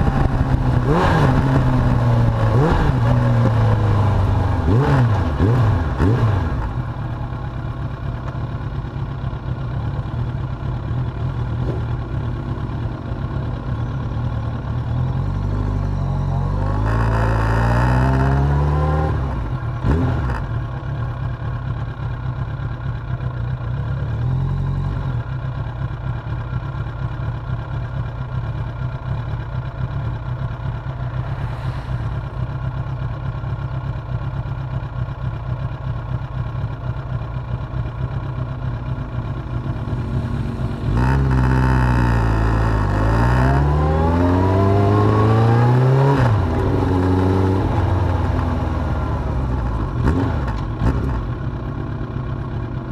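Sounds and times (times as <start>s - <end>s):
motorcycle engine revving: 0.0s - 27.5s, 28.3s - 52.8s.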